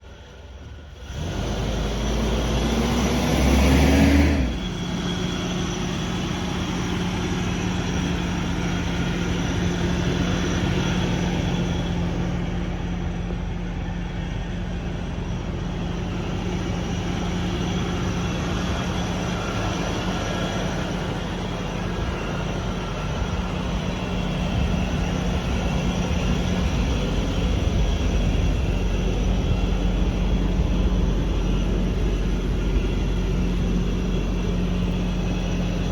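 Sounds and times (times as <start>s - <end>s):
truck engine revving then idling: 0.1s - 35.9s.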